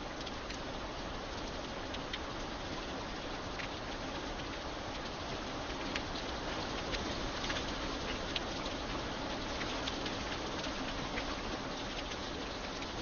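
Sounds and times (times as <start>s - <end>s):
light rain hissing: 0.0s - 13.0s
raindrops ticking on metal: 0.0s - 13.0s.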